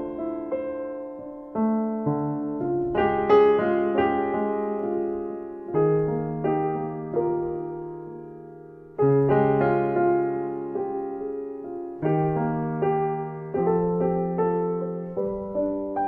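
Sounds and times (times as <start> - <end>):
soft piano chords: 0.0 - 16.0.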